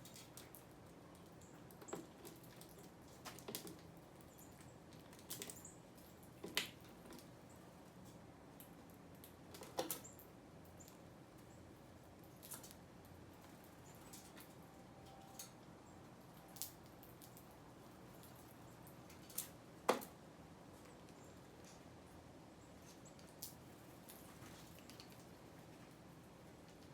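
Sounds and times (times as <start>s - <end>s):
birds pecking and landing: 0.0s - 10.2s, 12.2s - 15.6s, 16.3s - 20.2s, 22.8s - 26.9s.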